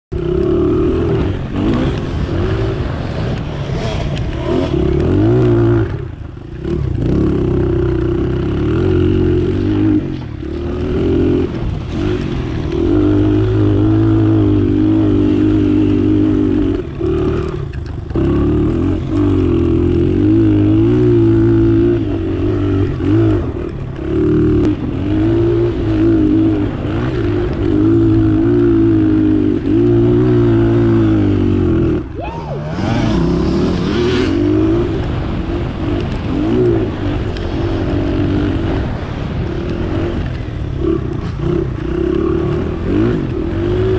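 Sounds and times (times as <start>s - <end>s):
dirt bike engine revving: 0.1s - 43.9s.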